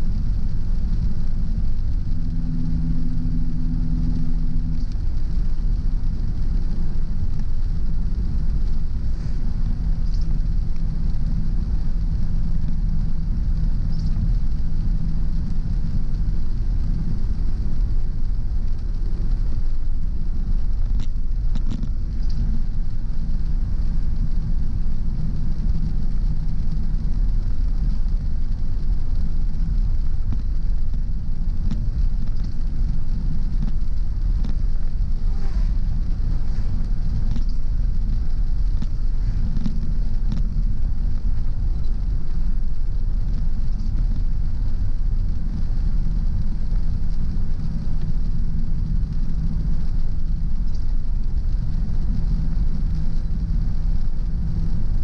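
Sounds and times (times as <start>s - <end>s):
car road and engine drone: 0.0s - 55.0s.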